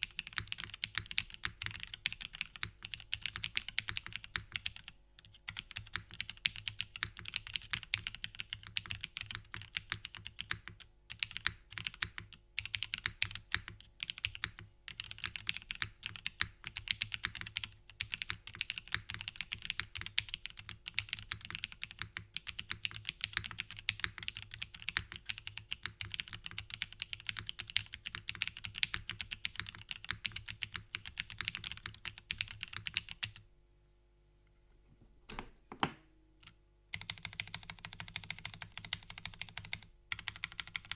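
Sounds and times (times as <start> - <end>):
mechanical keyboard typing: 0.0 - 33.4, 37.0 - 40.9.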